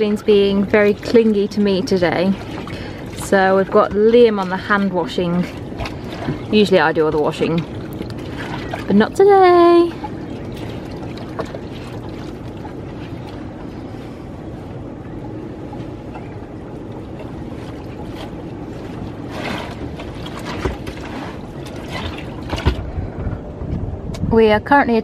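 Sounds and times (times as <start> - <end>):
water sloshing and splashing: 0.0 - 24.0.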